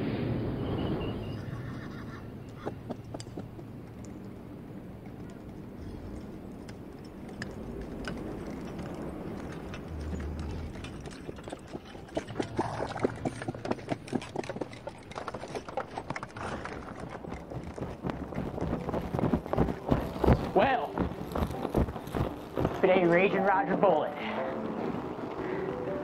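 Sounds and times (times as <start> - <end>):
horse hooves clip-clopping: 1.4 - 26.0.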